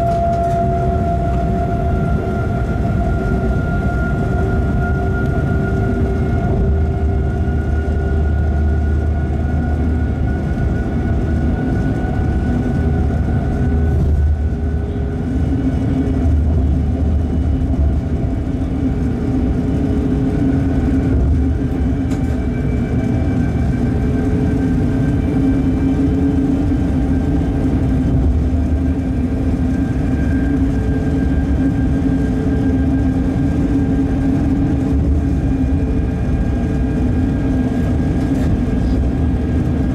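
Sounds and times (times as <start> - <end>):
locomotive humming tones: 0.0 - 39.9
wheels rumbling on rail: 0.0 - 39.9.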